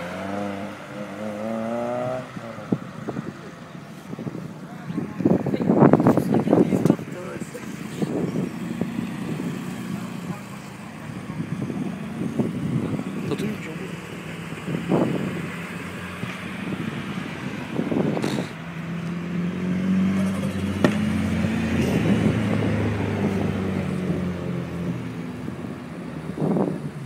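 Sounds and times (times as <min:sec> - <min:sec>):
cars driving past revving: 0:00.0 - 0:27.0.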